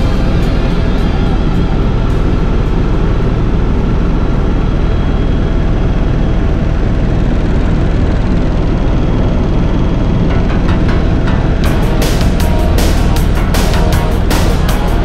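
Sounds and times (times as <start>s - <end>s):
faint steady whines: 0.0s - 15.0s
helicopter engine and rotor drone: 0.0s - 15.0s
low hum: 0.0s - 15.0s.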